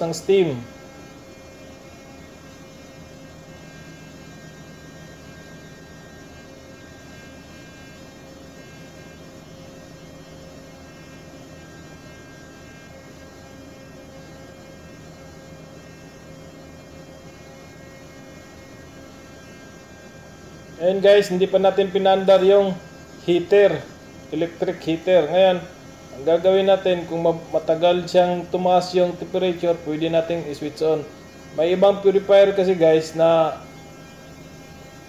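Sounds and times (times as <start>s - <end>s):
engine room machinery drone: 0.0s - 35.0s
steady machine tones: 0.0s - 35.0s.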